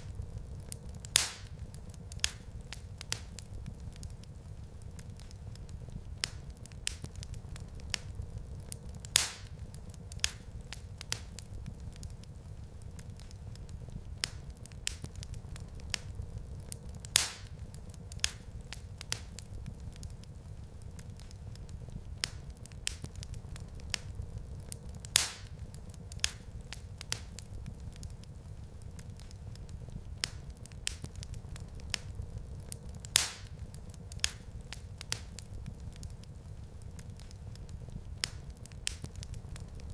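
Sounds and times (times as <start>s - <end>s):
fire crackling in a fireplace: 0.0s - 39.9s.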